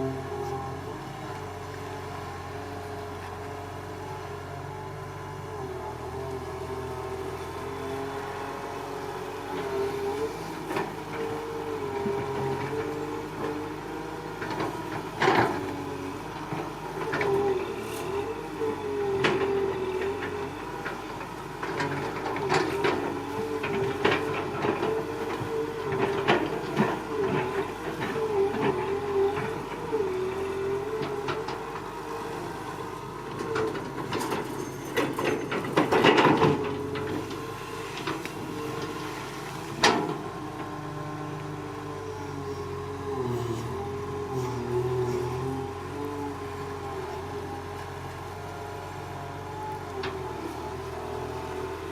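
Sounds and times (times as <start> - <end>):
excavator clanks and knocks: 0.0 - 51.9
excavator engine whine: 0.0 - 51.9.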